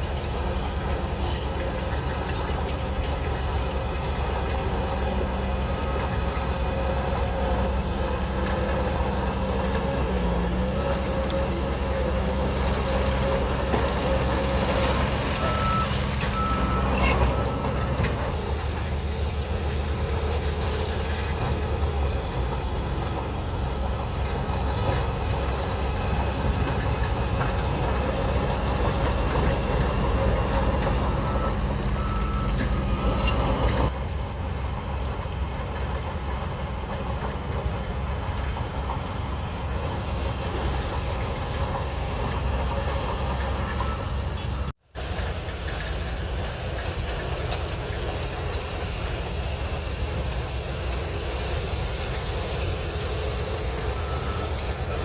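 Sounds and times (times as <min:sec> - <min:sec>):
metallic track clanking: 0:00.0 - 0:34.0, 0:34.7 - 0:55.0
bulldozer diesel engine under load: 0:00.0 - 0:55.0.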